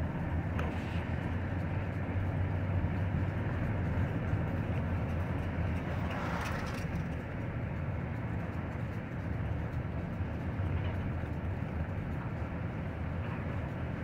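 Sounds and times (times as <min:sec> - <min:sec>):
vehicle driving slowly: 0:00.0 - 0:14.0.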